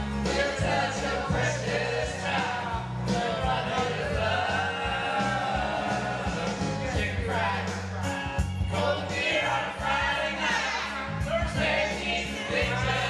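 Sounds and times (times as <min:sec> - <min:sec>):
country karaoke backing track: 0:00.0 - 0:13.0
people singing together: 0:00.0 - 0:13.0.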